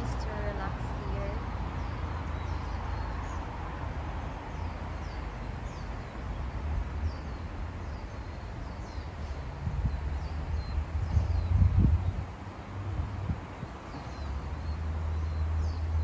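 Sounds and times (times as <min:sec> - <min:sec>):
small birds chirping: 0:00.1 - 0:12.4, 0:13.1 - 0:16.0.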